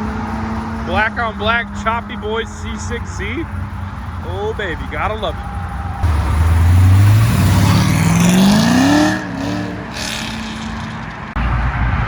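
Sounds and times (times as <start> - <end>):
car accelerating away: 0.0 - 11.4.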